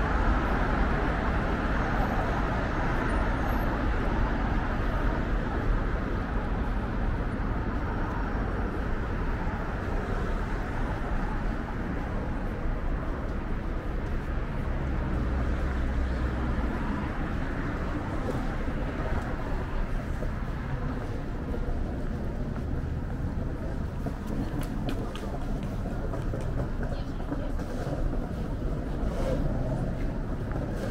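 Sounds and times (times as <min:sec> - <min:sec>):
busy road traffic rumble: 0:00.0 - 0:30.9.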